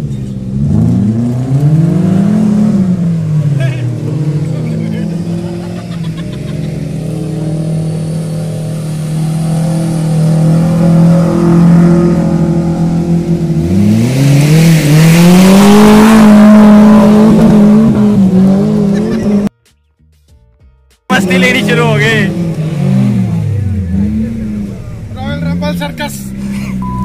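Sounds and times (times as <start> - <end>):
suv engine revving: 0.0 - 19.5, 21.1 - 27.0.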